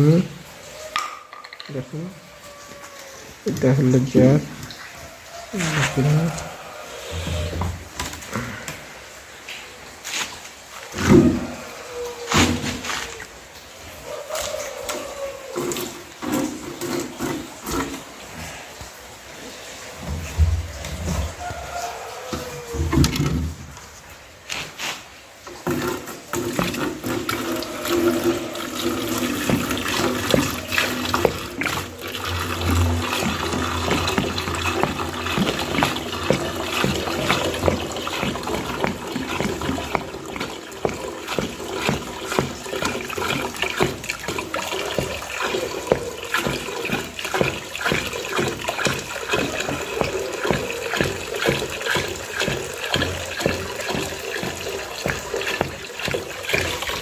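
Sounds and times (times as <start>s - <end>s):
water running and splashing: 0.0s - 57.0s.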